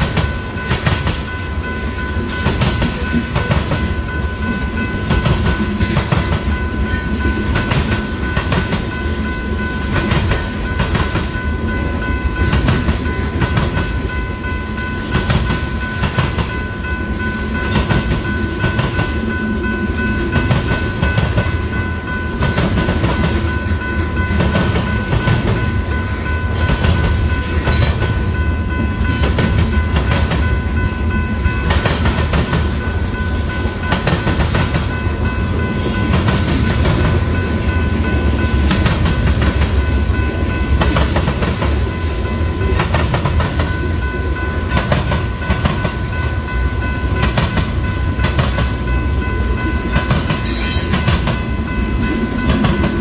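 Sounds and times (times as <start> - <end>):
train wheels clattering over rails: 0.0 - 14.2, 15.0 - 16.8, 17.5 - 46.5, 47.1 - 53.0
steady high-pitched tone: 0.0 - 53.0.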